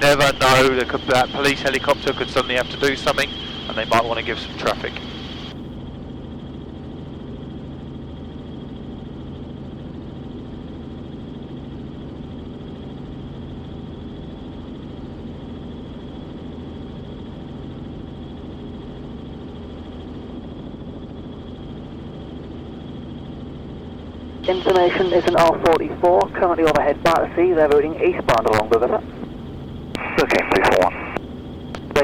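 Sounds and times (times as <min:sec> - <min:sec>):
helicopter drone: 0:00.0 - 0:32.0.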